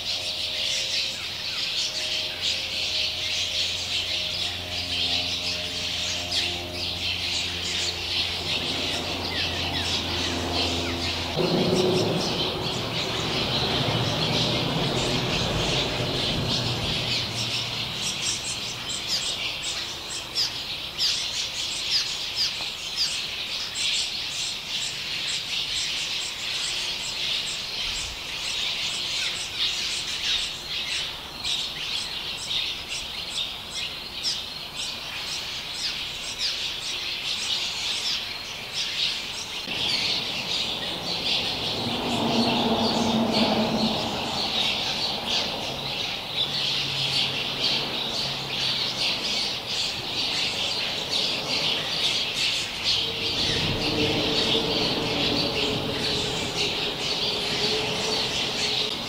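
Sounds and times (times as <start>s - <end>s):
swallows chirping and squeaking: 0.0s - 59.0s.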